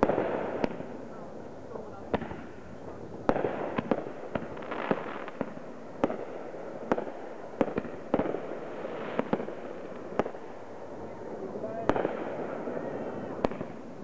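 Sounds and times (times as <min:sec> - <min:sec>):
fireworks bangs: 0:00.0 - 0:01.2, 0:01.8 - 0:14.0
fireworks crackling: 0:00.0 - 0:14.0.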